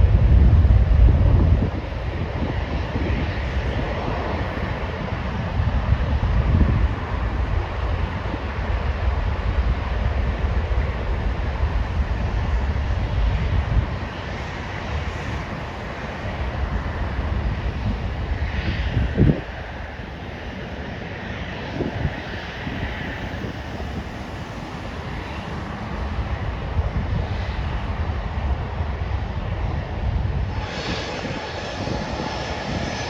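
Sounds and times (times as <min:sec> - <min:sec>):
jet engine rushing: 0:00.0 - 0:33.0
wind buffeting microphone: 0:00.0 - 0:33.0.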